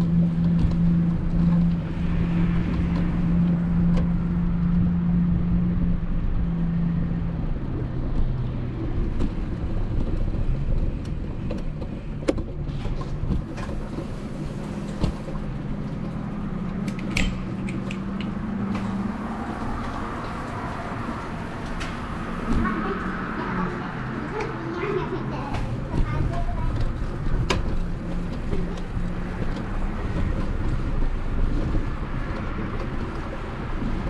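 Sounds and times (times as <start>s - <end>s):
engine rumbling and humming: 0.0s - 34.0s.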